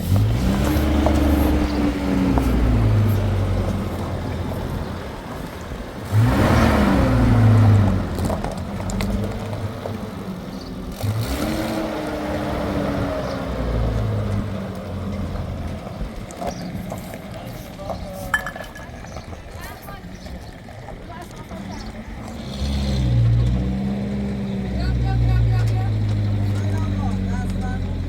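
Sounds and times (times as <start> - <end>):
engine revving: 0.0 - 16.6, 21.6 - 28.0.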